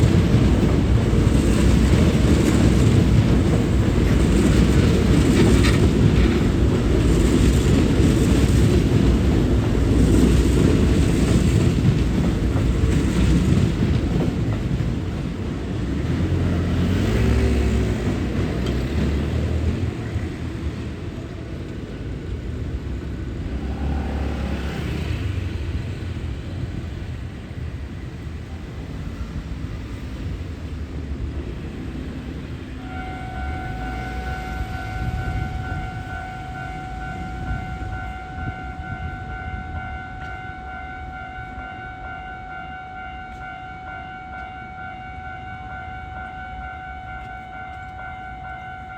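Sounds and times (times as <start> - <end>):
electric train rumbling past: 0.0 - 48.9.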